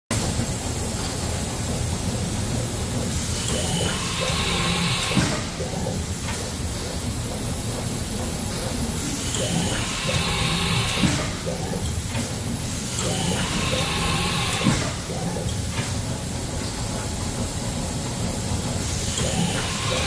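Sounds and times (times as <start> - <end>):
machine hiss and hum: 0.1 - 20.0.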